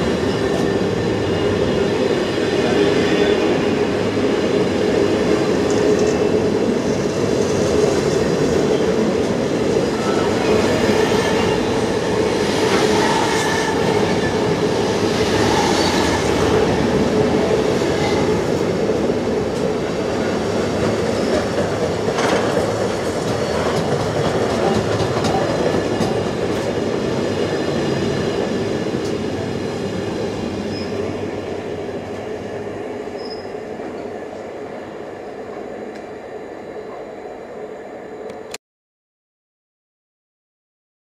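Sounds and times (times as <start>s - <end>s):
freight train rumbling past: 0.0s - 38.5s.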